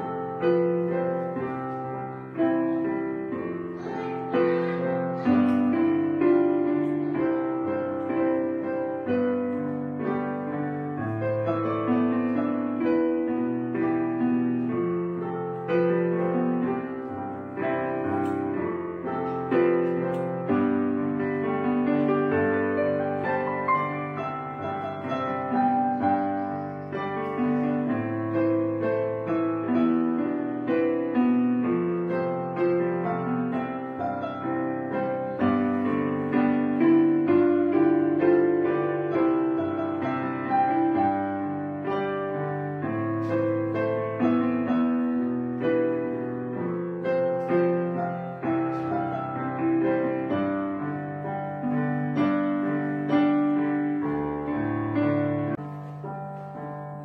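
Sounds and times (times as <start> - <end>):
gentle piano melody: 0.0 - 57.0.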